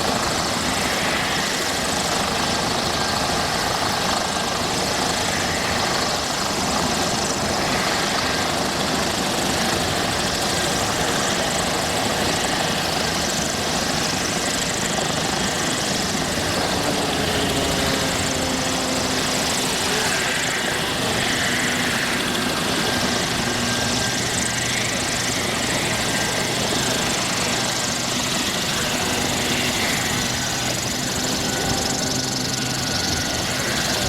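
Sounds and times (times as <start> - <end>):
helicopter rotor and engine noise: 0.0 - 34.0.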